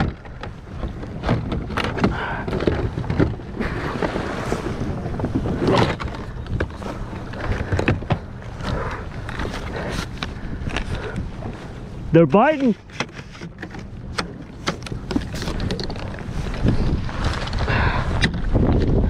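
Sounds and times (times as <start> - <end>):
wind buffeting microphone: 0.0 - 12.3, 13.5 - 19.0
water slapping plastic kayak: 0.0 - 19.0.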